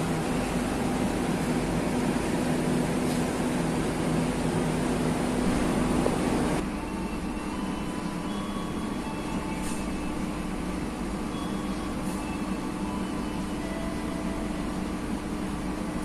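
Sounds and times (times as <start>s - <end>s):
passenger train running: 0.0s - 16.0s.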